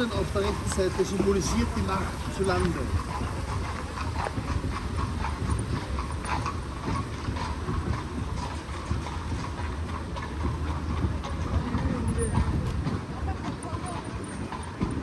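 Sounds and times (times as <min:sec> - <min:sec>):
carriage rolling rumble: 0:00.0 - 0:15.0
horse hooves clip-clopping: 0:00.0 - 0:15.0.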